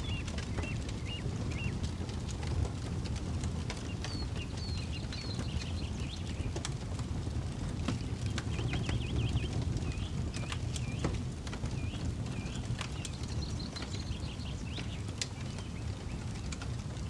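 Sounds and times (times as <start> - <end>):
small birds chirping: 0.0 - 2.7, 3.7 - 7.0, 7.6 - 16.8
campfire crackling and popping: 0.0 - 17.0
low steady rumble: 0.0 - 17.0.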